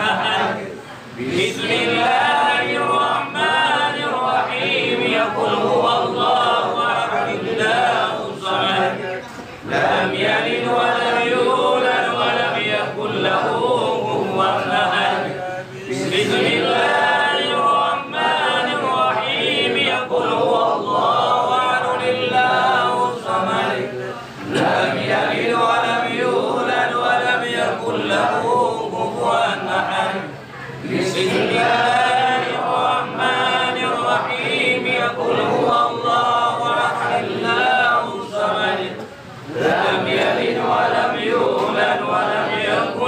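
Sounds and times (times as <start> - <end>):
men chanting prayer together: 0.0 - 43.0.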